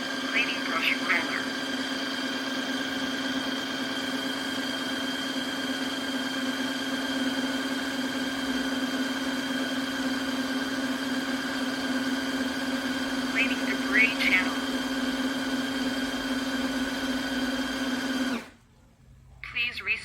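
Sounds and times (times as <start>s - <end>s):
vacuum motor hum with whine: 0.0s - 18.6s.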